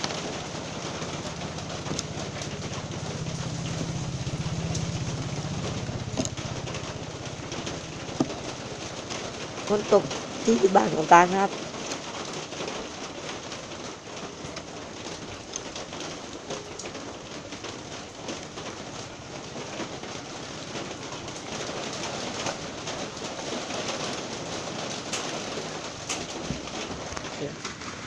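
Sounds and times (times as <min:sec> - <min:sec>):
raindrops ticking: 0:00.0 - 0:28.0
steady rain falling: 0:00.0 - 0:28.0.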